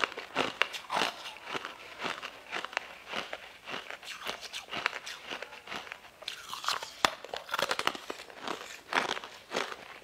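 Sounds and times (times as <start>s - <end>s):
crunchy bites: 0.0s - 10.0s
jelly candies being chewed: 0.0s - 10.0s.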